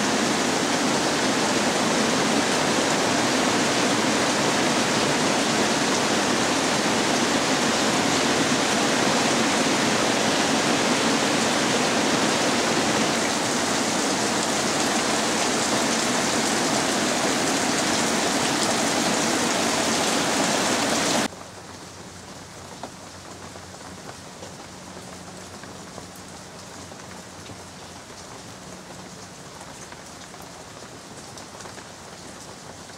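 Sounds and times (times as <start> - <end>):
heavy rain on foliage: 0.0 - 32.9.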